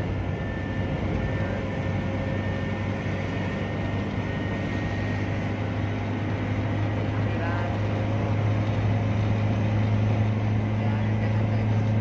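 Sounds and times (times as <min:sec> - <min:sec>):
car engine drone: 0:00.0 - 0:12.0
road and tyre noise: 0:00.0 - 0:12.0.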